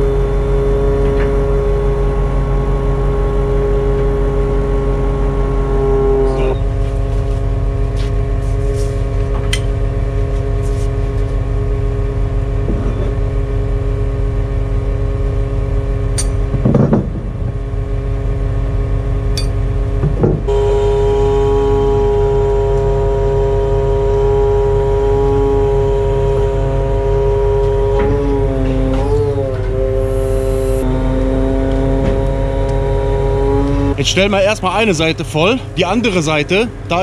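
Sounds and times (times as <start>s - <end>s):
truck engine and hydraulic pump hum: 0.0s - 37.0s.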